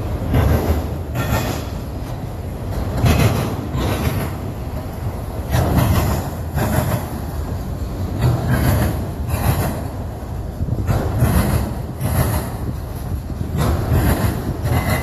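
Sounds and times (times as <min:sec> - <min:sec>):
freight train cars rolling: 0:00.0 - 0:15.0
wheels clacking over rail joints: 0:00.0 - 0:15.0.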